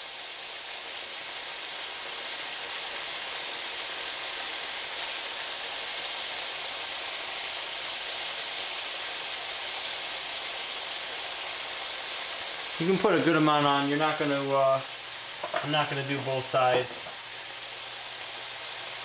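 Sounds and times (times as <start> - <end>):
chicken sizzling in frying pan: 0.0 - 19.0.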